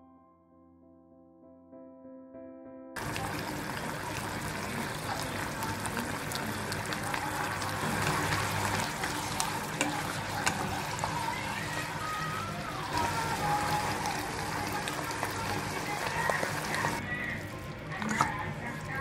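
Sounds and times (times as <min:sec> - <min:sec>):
sauce bubbling and sizzling: 0:03.0 - 0:19.0.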